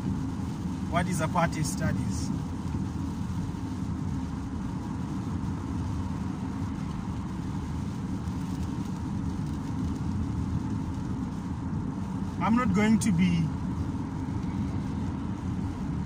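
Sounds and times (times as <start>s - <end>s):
car cabin road and engine drone: 0.0s - 16.0s.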